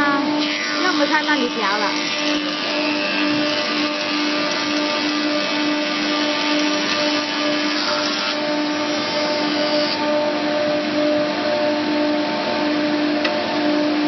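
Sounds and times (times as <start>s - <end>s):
planer machine humming and whining: 0.0s - 14.0s.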